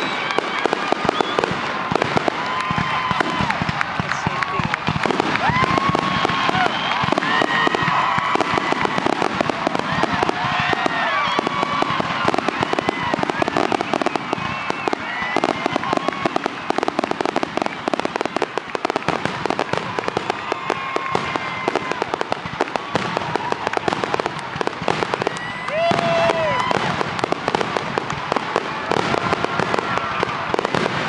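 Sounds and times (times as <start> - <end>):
fireworks crackling: 0.0 - 31.0.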